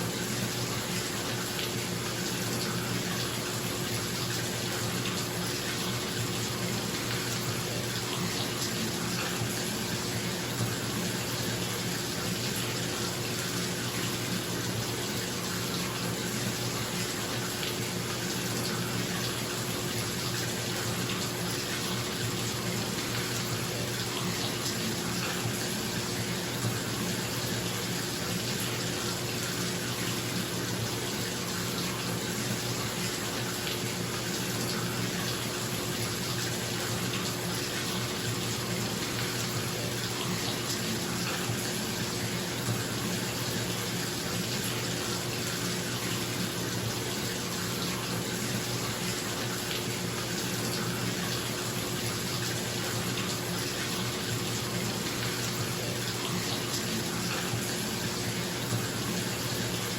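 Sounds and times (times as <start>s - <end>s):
water pouring into bathtub: 0.0s - 59.9s.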